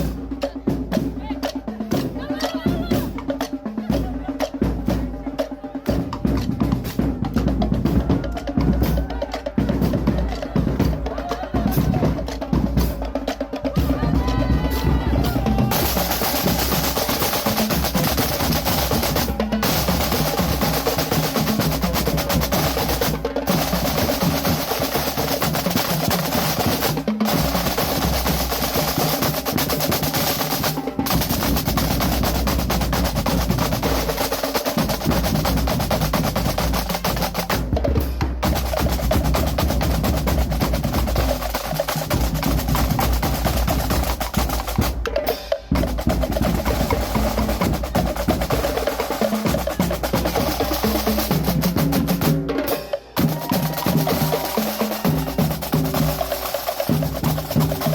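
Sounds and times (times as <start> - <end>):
music with fast dense drumming: 0.0 - 57.9.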